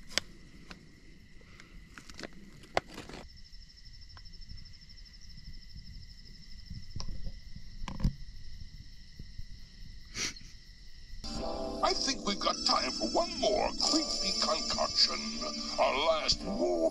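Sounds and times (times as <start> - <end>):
crickets trilling: 0.0 - 16.9
low steady insect tone: 0.0 - 16.9.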